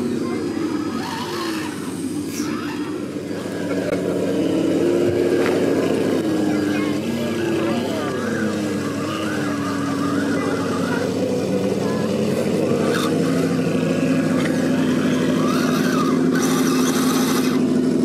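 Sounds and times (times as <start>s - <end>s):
toy car electric motor whining: 0.0s - 3.6s, 5.2s - 18.0s.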